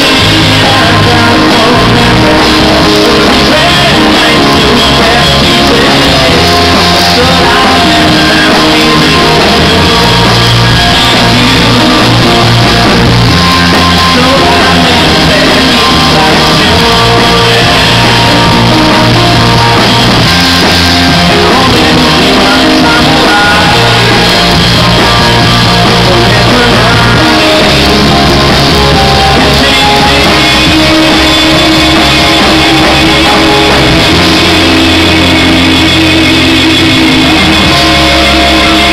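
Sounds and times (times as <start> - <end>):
man singing: 0.0 - 38.9
rock band playing: 0.0 - 38.9.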